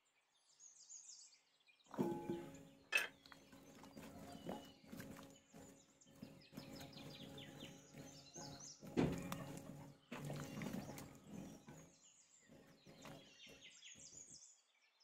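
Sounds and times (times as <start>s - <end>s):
wet squelching of mixing: 1.9s - 14.1s.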